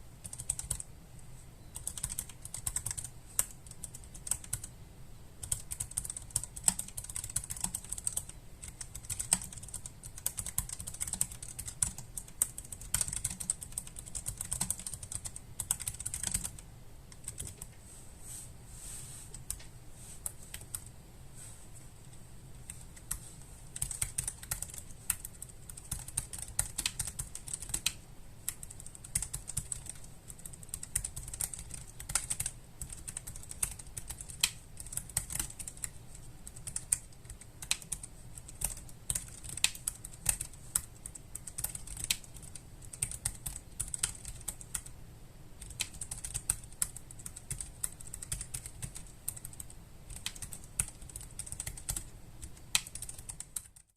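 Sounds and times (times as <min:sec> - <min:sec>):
mechanical keyboard typing: 0:00.2 - 0:00.9, 0:01.8 - 0:04.7, 0:05.4 - 0:17.7, 0:23.8 - 0:44.9, 0:45.6 - 0:53.9.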